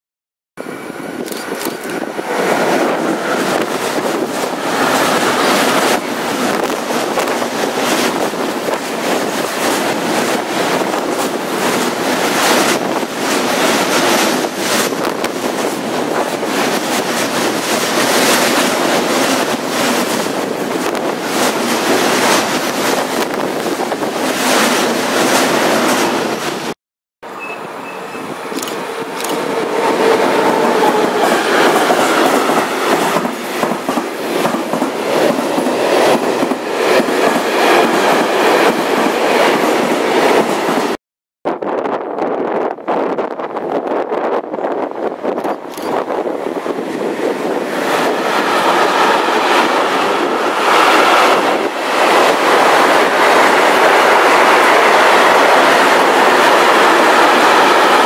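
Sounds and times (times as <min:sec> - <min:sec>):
freight train approaching: 0:00.6 - 0:41.0, 0:42.0 - 0:58.0
freight train passing: 0:00.6 - 0:41.0, 0:41.6 - 0:58.0.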